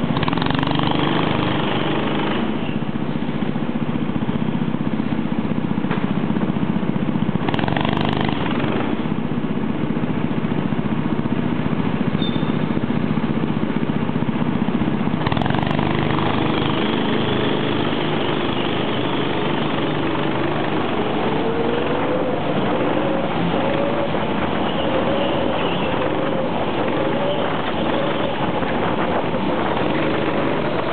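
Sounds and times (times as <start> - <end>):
go-kart engines idling: 0.0 - 30.9.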